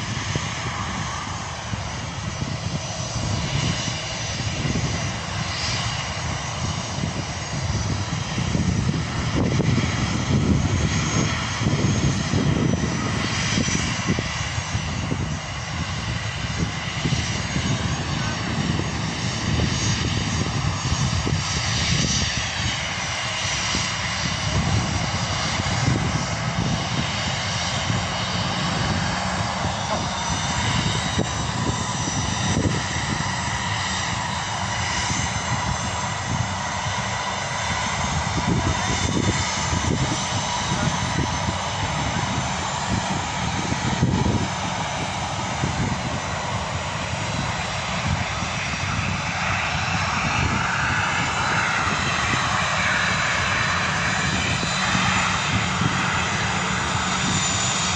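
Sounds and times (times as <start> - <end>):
jet engines running: 0.0 - 57.9.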